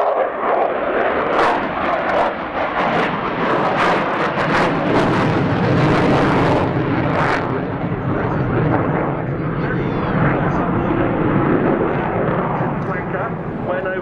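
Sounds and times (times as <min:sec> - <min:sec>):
jet fighter flying past: 0:00.0 - 0:14.0.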